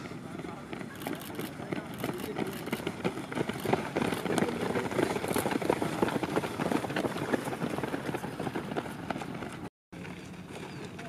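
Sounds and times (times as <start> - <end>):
runners footsteps on dirt: 0.0 - 11.0.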